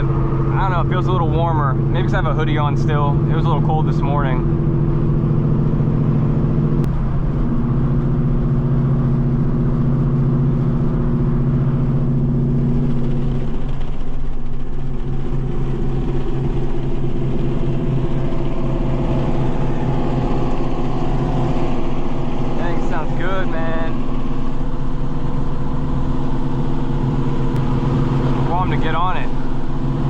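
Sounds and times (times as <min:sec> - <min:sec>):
car engine droning: 0:00.0 - 0:30.0
road rumble: 0:00.0 - 0:30.0.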